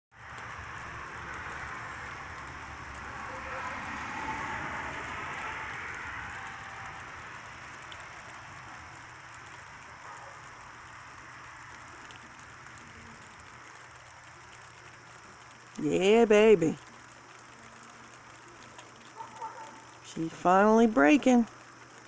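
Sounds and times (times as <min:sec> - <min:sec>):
rain falling: 0:00.1 - 0:22.0.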